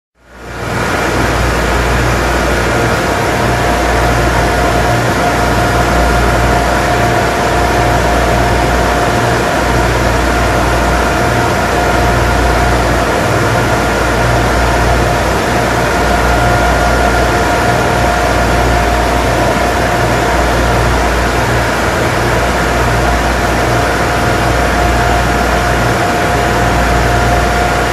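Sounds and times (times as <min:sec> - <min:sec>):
engine-room machinery running: 0:00.2 - 0:27.9.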